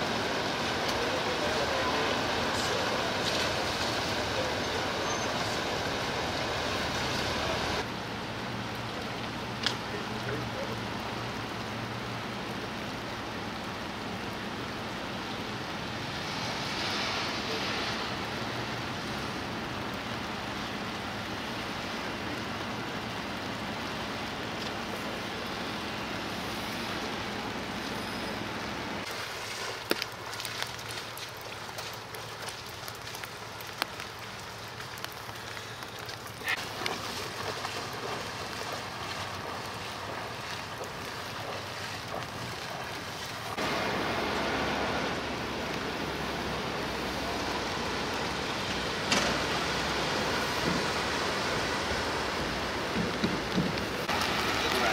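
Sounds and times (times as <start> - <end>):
outdoor hiss: 0.0 - 54.9.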